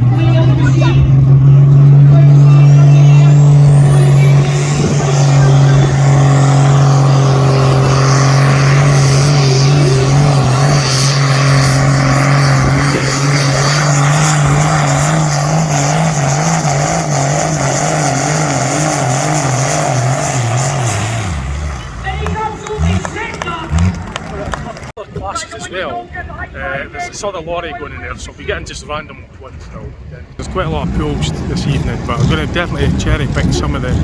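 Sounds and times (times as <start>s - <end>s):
engine droning under load: 0.0s - 25.0s, 30.4s - 34.0s.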